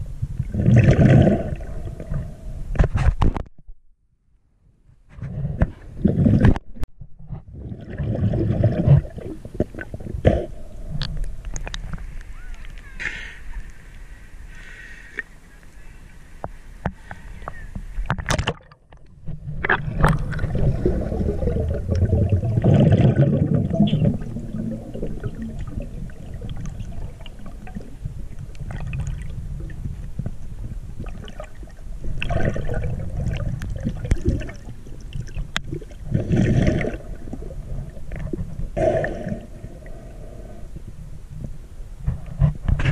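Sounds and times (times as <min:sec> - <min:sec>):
underwater bubbling and churning: 0:00.0 - 0:03.1, 0:05.2 - 0:15.4, 0:16.2 - 0:42.9
muffled underwater rumble: 0:00.0 - 0:03.8, 0:04.7 - 0:42.9
water sloshing and gurgling: 0:00.2 - 0:03.7, 0:05.2 - 0:12.9, 0:16.8 - 0:42.9.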